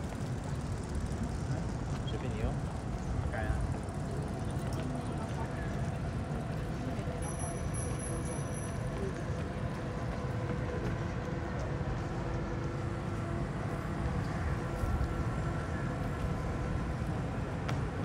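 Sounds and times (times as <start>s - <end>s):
low city ambience rumble: 0.0s - 18.0s.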